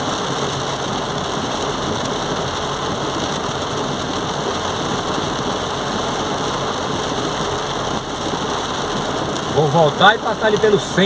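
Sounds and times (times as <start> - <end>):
car engine running: 0.0 - 11.0
heavy rain on car roof: 0.0 - 11.0
tyres through floodwater: 0.0 - 11.0.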